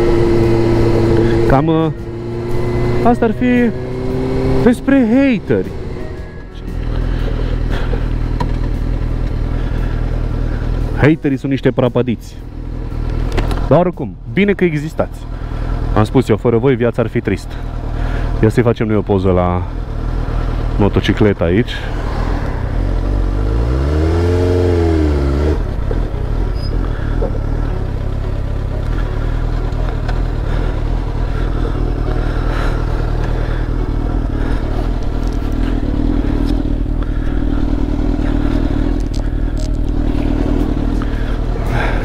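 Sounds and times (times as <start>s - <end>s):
motorcycle engine idling: 0.0s - 11.5s, 15.2s - 23.5s, 24.6s - 42.0s.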